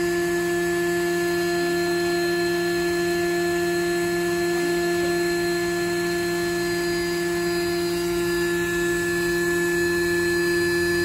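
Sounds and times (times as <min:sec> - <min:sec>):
electric air pump running: 0:00.0 - 0:11.0.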